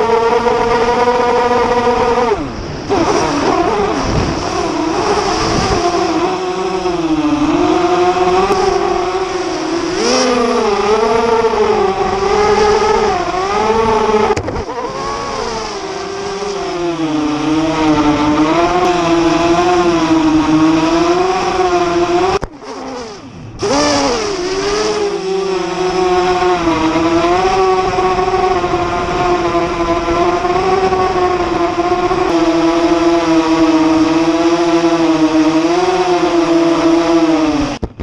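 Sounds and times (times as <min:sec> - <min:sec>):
quadcopter motors whining: 0:00.0 - 0:37.9.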